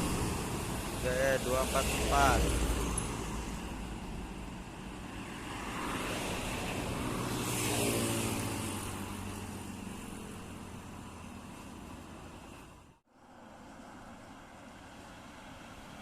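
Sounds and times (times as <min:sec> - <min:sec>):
bus engine passing by: 0:00.0 - 0:16.0.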